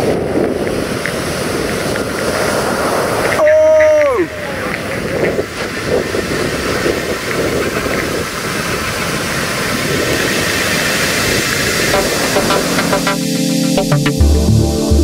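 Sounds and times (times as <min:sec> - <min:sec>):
surf crashing: 0:00.0 - 0:14.1.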